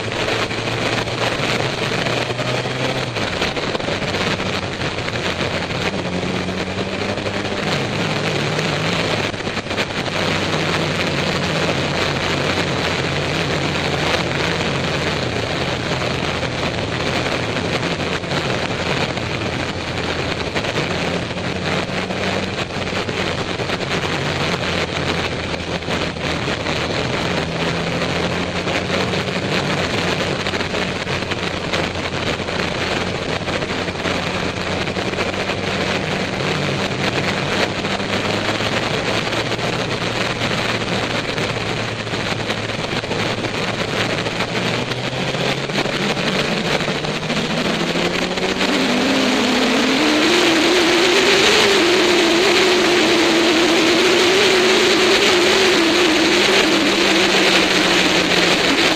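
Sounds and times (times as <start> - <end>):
motorcycle engine running: 0.0 - 58.9
wind noise on microphone: 0.0 - 58.9.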